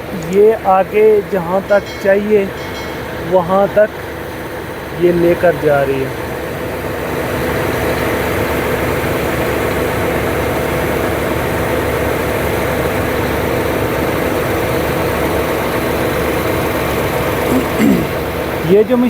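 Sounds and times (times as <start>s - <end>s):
heavy diesel engines droning: 0.0s - 19.0s.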